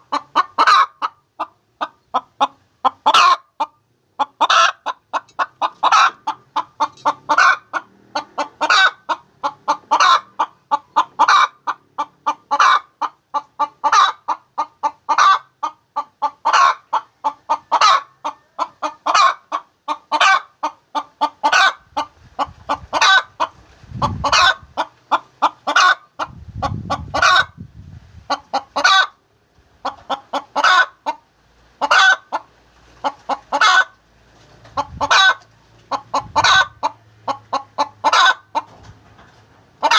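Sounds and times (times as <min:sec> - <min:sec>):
hen cackling: 0:00.0 - 0:27.6, 0:28.3 - 0:29.2, 0:29.8 - 0:34.0, 0:34.7 - 0:38.8.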